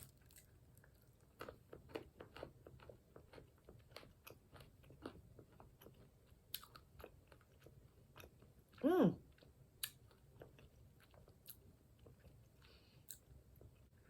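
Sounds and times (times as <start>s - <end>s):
crunching and chewing nuts: 0.0s - 14.0s.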